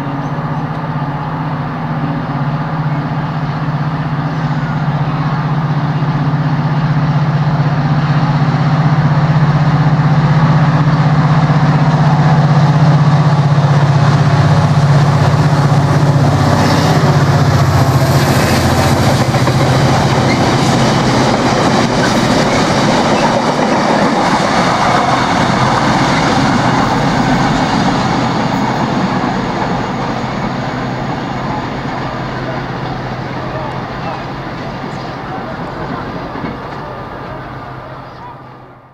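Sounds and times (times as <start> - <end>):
diesel locomotive engine drone: 0.0 - 38.9.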